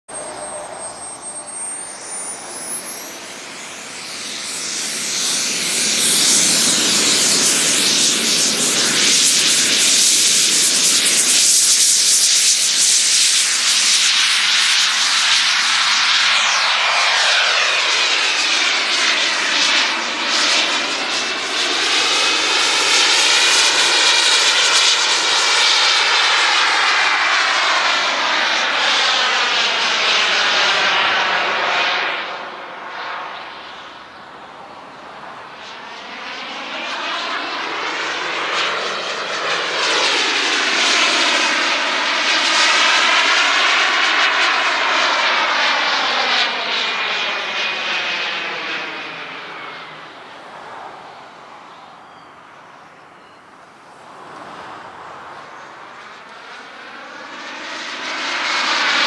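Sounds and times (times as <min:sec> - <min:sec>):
model jet turbine whine: 0:00.1 - 0:59.0.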